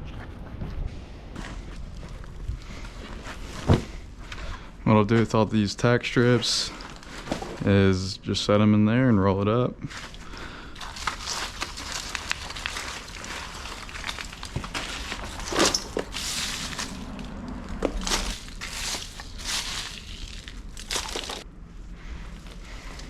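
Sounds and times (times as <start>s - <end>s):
carpet rustling and scraping: 0.0s - 5.4s, 6.2s - 7.8s, 9.9s - 23.0s.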